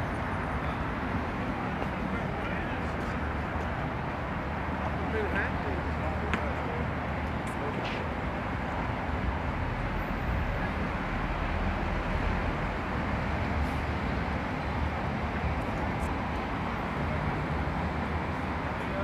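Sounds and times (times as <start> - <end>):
traffic engine rumble: 0.0 - 19.0.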